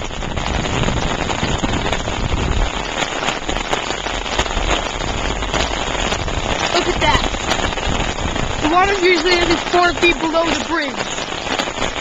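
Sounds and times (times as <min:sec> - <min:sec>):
rain on an umbrella: 0:00.0 - 0:12.0
rain on wet pavement: 0:00.0 - 0:12.0.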